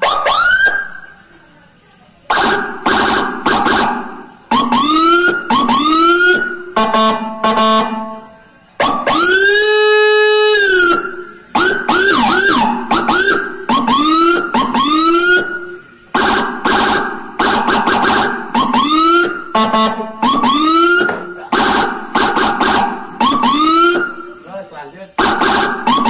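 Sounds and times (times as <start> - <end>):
electronic police siren: 0.0 - 1.1, 2.3 - 24.6, 25.2 - 26.0.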